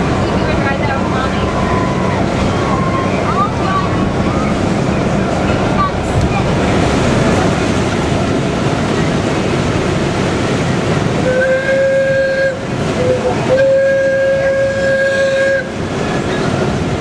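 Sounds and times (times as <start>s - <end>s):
wind and water on microphone: 0.0s - 17.0s.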